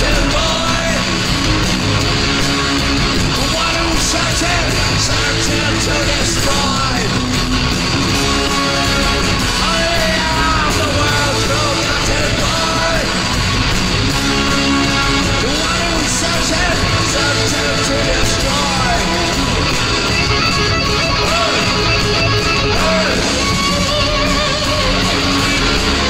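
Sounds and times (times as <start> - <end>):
distorted electric guitars: 0.0 - 26.0
punk rock band playing: 0.0 - 26.0.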